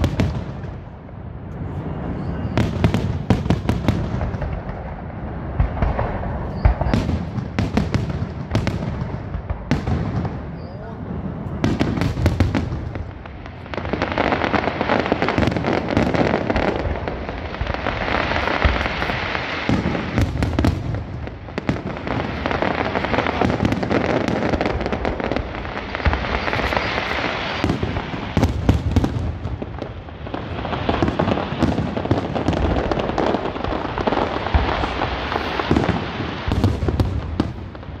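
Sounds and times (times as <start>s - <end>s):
fireworks crackling: 0.0s - 38.0s
fireworks sharp bangs: 0.0s - 38.0s.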